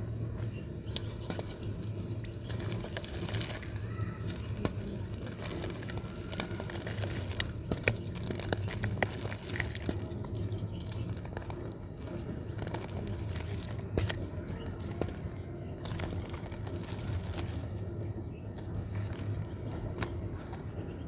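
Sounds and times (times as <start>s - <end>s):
dirt crumbling in hands: 0.9s - 21.0s.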